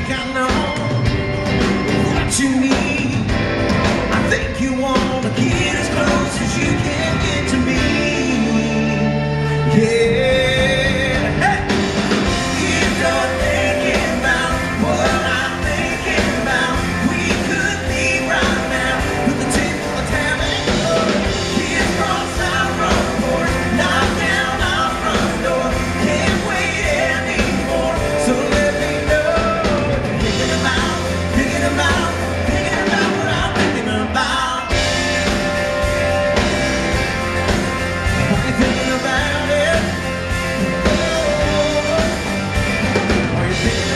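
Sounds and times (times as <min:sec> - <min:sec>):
man singing: 0:00.0 - 0:01.2, 0:01.9 - 0:03.4, 0:04.0 - 0:36.6, 0:37.5 - 0:43.9
live country rock band: 0:00.0 - 0:43.9.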